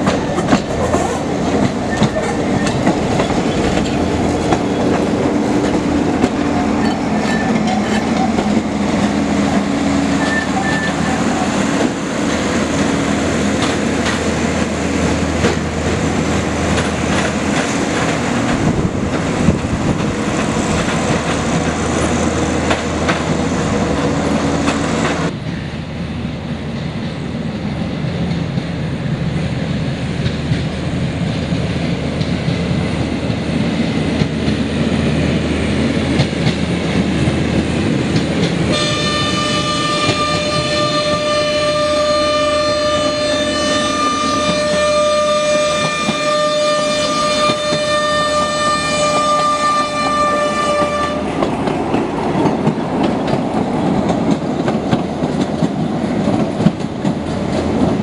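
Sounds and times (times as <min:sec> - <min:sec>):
tram wheels clattering on rails: 0:00.0 - 0:58.0.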